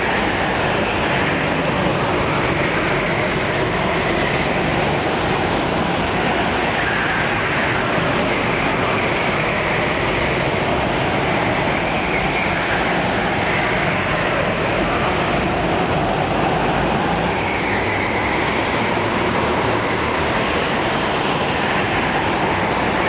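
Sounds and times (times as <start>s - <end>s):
go-kart engines droning: 0.0s - 23.0s.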